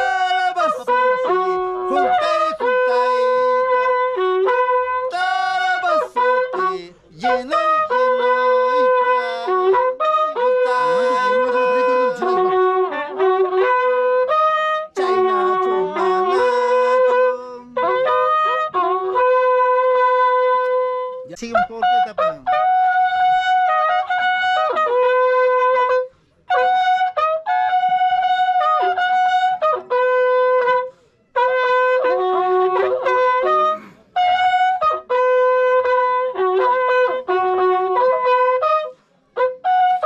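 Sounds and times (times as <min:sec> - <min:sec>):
horn trumpet playing slow melody: 0:00.0 - 0:21.2, 0:21.8 - 0:40.0.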